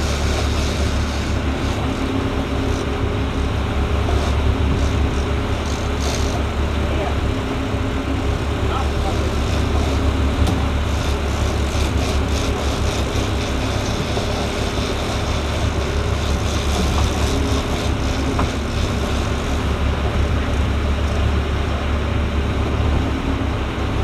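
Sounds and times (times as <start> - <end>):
boat engine drone: 0.0 - 24.0.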